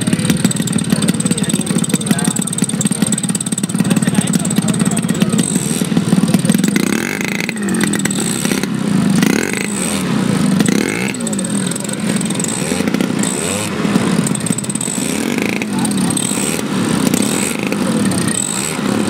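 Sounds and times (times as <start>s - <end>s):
model plane engine revving: 0.0s - 19.0s.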